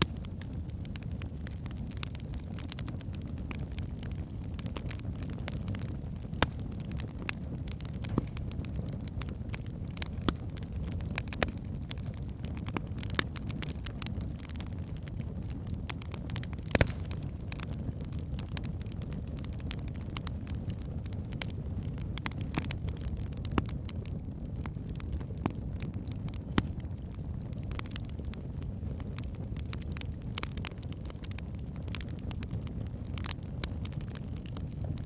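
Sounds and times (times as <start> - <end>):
fire flames rumbling: 0.0 - 35.0
logs crackling and popping: 0.0 - 35.0.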